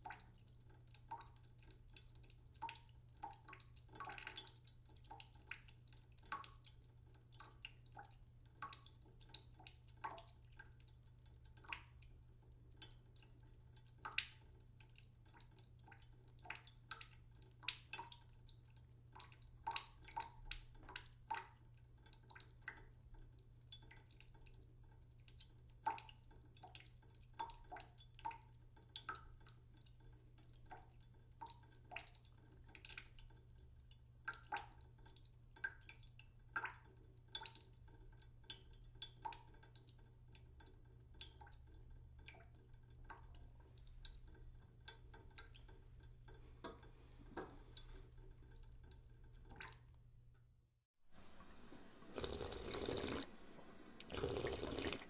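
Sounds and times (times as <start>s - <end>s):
water drops dripping: 0.0s - 50.4s.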